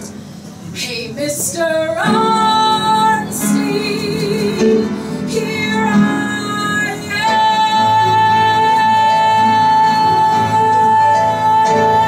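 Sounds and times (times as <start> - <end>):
woman singing long high note: 1.5 - 12.0.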